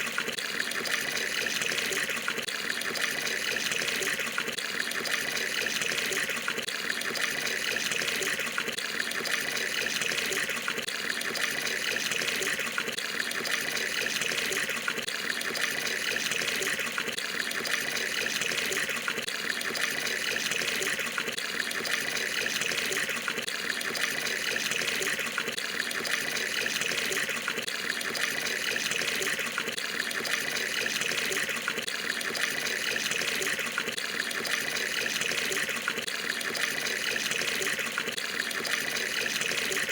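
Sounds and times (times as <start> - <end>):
water pouring into a tub: 0.0 - 39.9.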